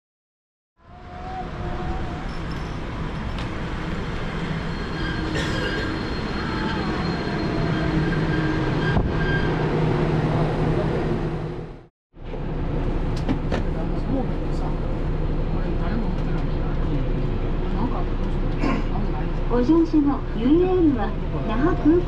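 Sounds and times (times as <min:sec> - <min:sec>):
monorail train running: 0:00.9 - 0:22.0.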